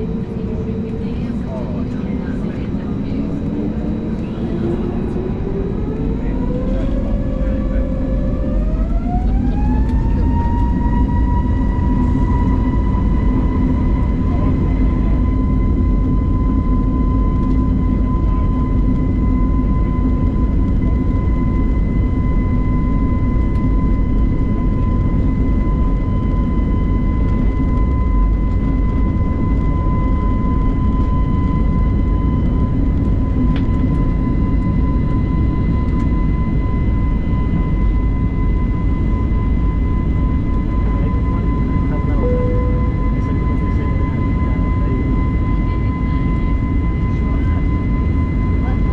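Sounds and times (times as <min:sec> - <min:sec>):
jet engine fan whine: 0:00.0 - 0:48.9.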